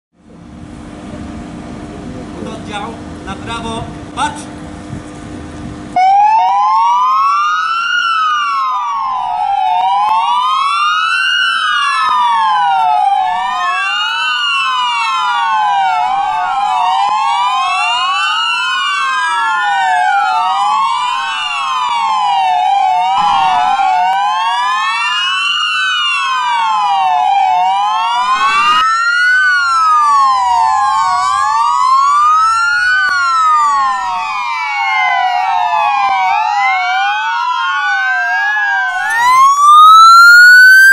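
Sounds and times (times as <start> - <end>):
police sirens wailing: 6.0 - 40.9.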